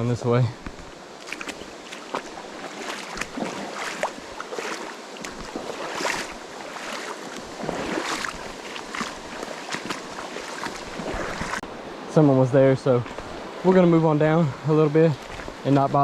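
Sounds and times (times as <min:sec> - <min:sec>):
river water splashing over rocks: 0:00.6 - 0:11.6, 0:12.2 - 0:16.0.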